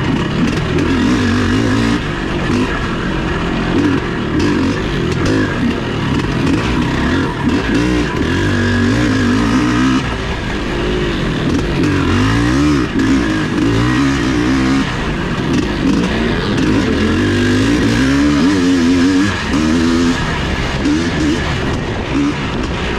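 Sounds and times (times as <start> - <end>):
motorcycle engines revving: 0.0 - 22.9.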